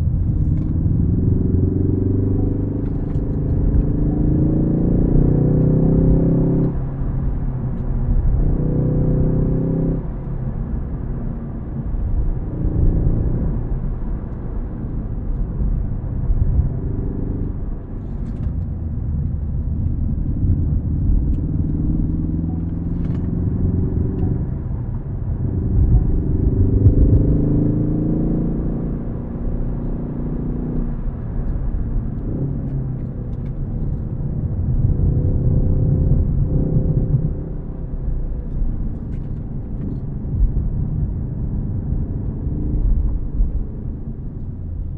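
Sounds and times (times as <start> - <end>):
car engine revving through gears: 0.0 - 10.3, 16.4 - 44.6.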